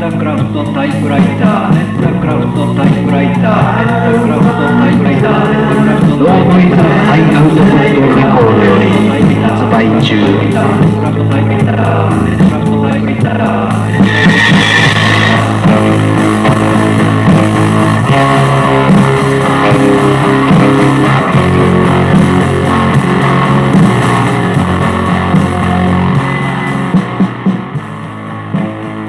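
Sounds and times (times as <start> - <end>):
indie pop with guitar and bass: 0.0 - 29.0.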